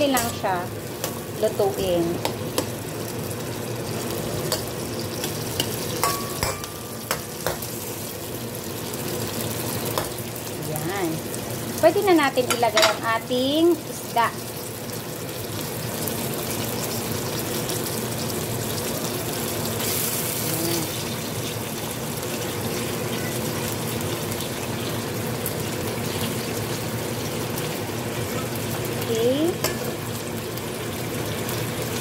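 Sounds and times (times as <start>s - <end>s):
food sizzling in a frying pan: 0.0s - 32.0s.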